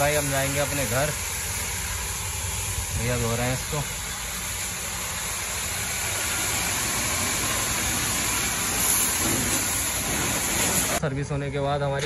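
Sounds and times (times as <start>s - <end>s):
pressure washer spraying: 0.0s - 11.0s.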